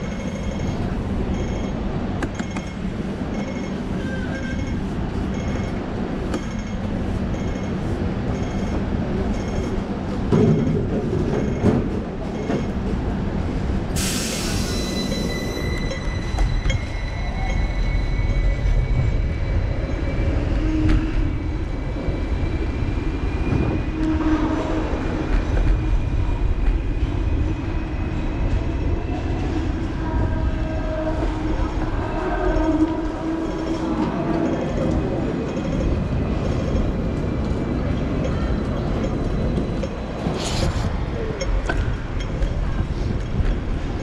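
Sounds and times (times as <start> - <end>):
tram wheel squeal: 0.0 - 12.8, 14.0 - 44.0
street traffic rumble: 0.0 - 44.0.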